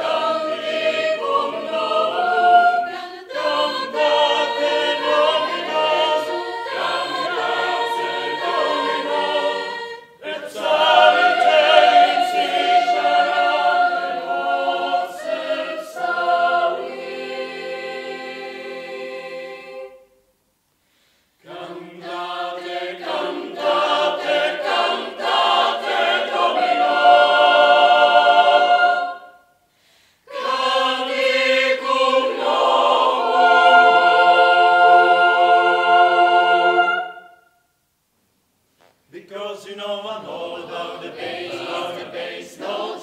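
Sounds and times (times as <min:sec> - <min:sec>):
youth choir singing a cappella: 0:00.0 - 0:20.2, 0:21.4 - 0:29.6, 0:30.2 - 0:37.6, 0:39.5 - 0:43.0.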